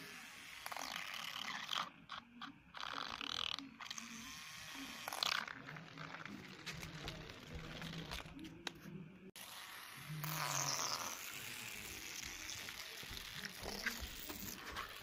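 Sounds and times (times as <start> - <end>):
small toy car motors running: 0.0 - 8.3, 9.4 - 15.0.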